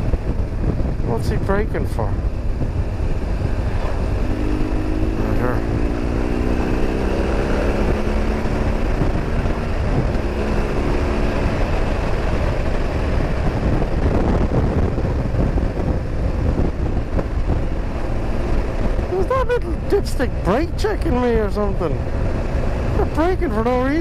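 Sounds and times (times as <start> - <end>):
motorcycle engine humming: 0.0 - 24.0
wind rush on microphone: 0.0 - 24.0.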